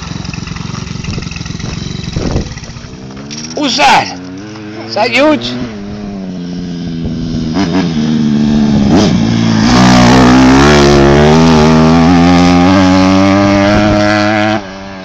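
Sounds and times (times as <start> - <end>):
dirt bike engine under throttle: 0.0 - 15.0.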